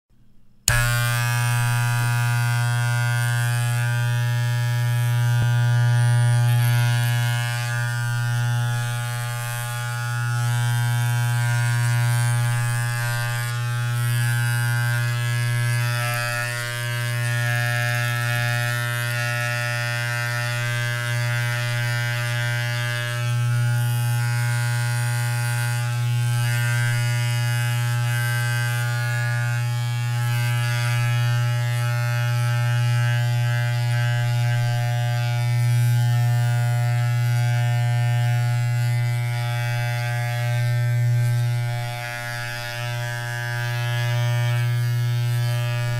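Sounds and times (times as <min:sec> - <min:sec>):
electric hair clippers buzzing: 0:00.6 - 0:45.9.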